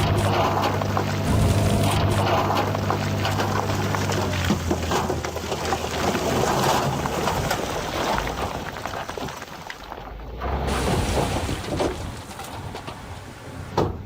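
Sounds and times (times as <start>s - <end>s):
low engine rumble: 0.0s - 14.0s
rattling clattering rock: 0.0s - 14.0s.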